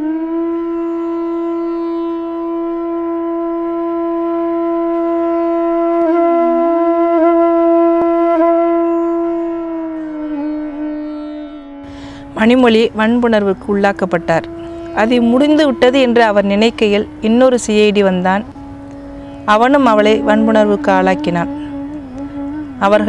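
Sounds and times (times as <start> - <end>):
wind instrument long note: 0.0 - 23.0.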